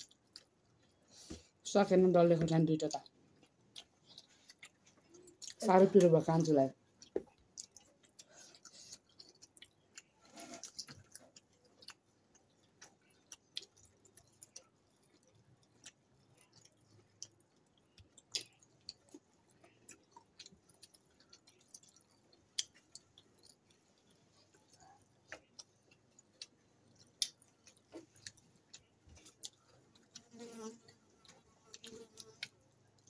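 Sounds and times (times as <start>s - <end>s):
chewing and mouth sounds: 0.0s - 1.6s, 2.8s - 33.0s.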